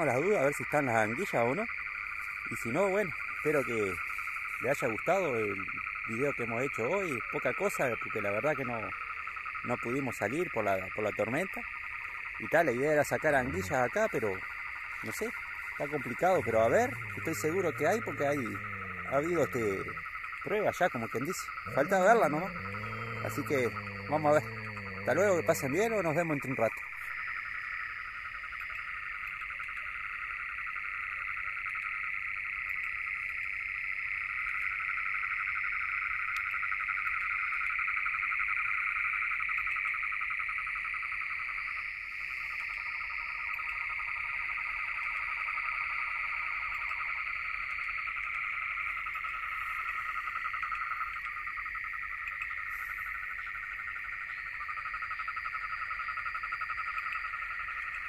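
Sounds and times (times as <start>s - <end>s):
frogs chorus trilling: 0.0s - 58.0s.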